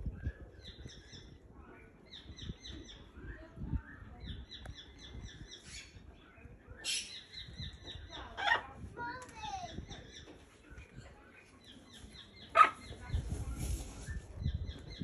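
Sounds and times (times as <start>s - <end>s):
birds chirping rapidly: 0.0s - 15.0s.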